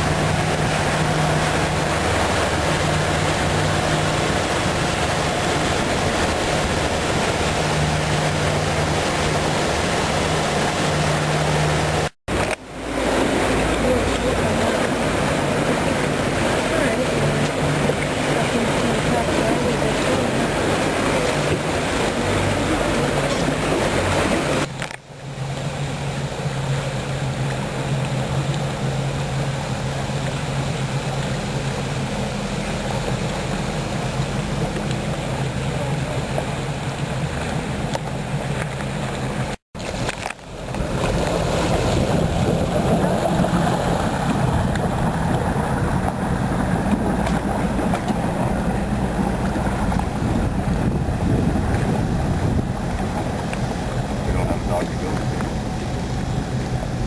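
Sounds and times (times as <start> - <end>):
boat engine droning: 0.0 - 57.0
rushing wind: 0.0 - 57.0
water rushing: 0.0 - 57.0.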